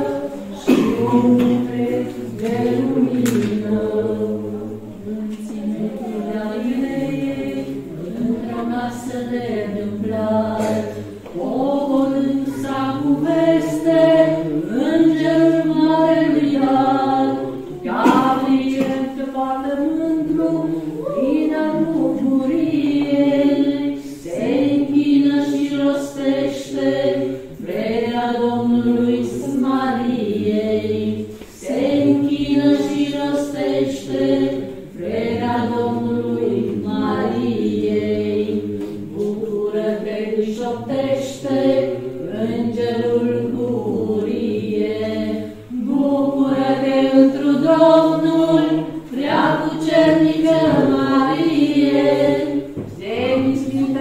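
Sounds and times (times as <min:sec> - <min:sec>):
choir singing unaccompanied: 0:00.0 - 0:54.0.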